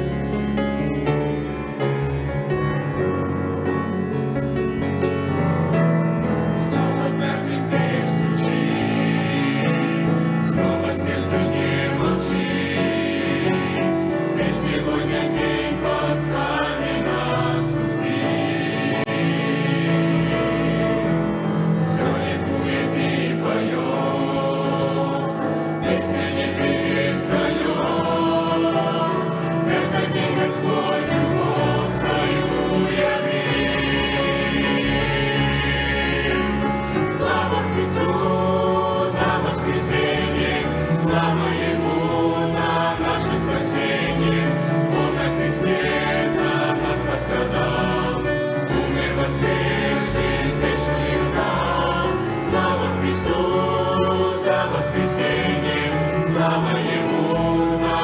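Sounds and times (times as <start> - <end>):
choir singing: 6.1 - 58.0.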